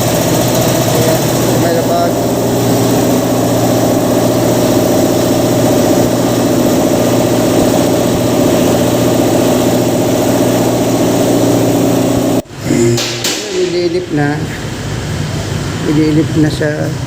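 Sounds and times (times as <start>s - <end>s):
motor running steadily: 0.0s - 16.8s.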